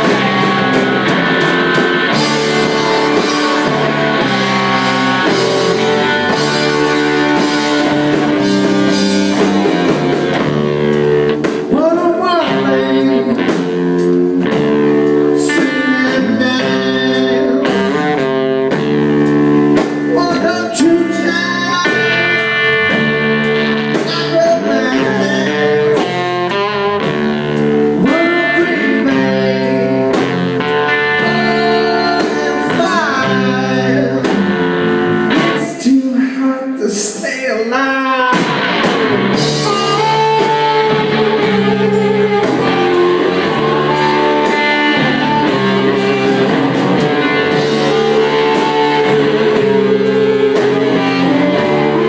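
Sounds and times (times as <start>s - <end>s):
drums keeping steady beat: 0.0s - 35.7s, 38.3s - 52.0s
guitar with bent notes: 0.0s - 36.0s, 38.0s - 52.0s.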